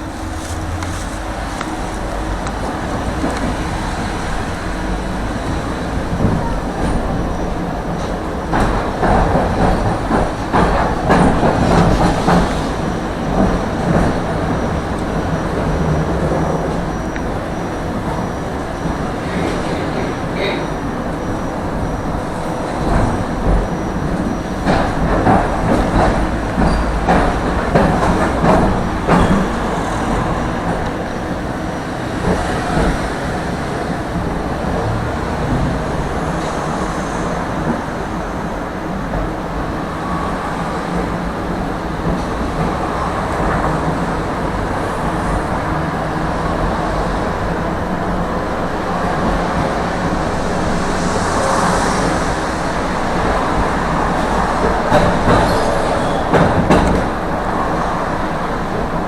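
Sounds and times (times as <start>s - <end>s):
tram rolling rumble: 0.0s - 59.0s
wheels clacking over track: 0.0s - 59.0s.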